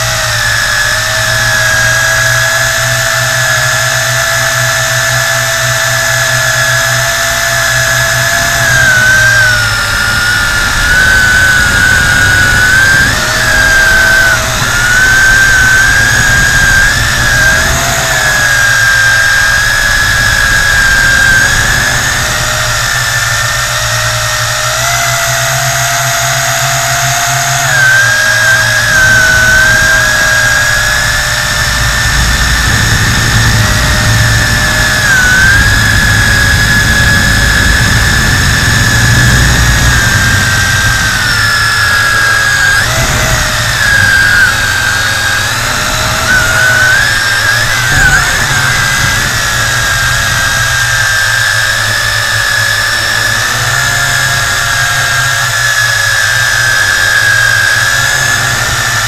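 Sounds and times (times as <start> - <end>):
drone propellers whining: 0.0 - 59.0
low rumbling noise: 0.0 - 59.0.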